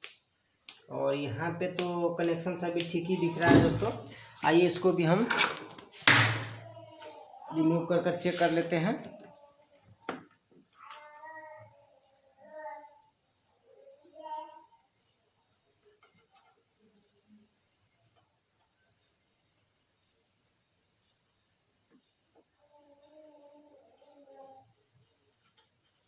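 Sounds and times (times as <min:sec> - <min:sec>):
high insect buzz: 0:00.0 - 0:26.0
insects trilling: 0:00.0 - 0:26.0.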